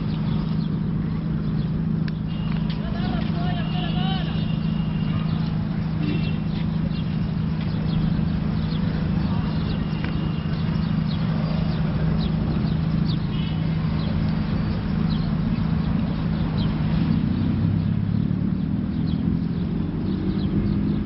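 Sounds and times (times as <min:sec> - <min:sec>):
low traffic engine hum: 0:00.0 - 0:21.0.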